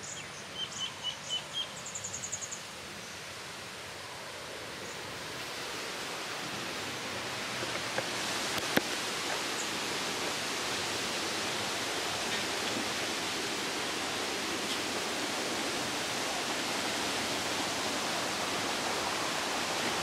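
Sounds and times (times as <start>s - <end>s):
steady rushing hiss: 1.7s - 20.0s.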